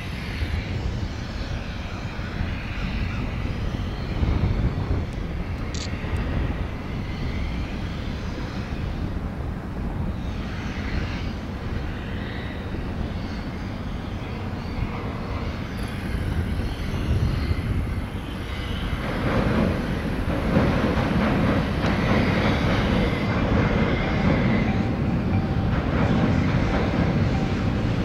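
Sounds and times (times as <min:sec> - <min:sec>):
train rumbling over steel bridge: 0:00.0 - 0:28.0.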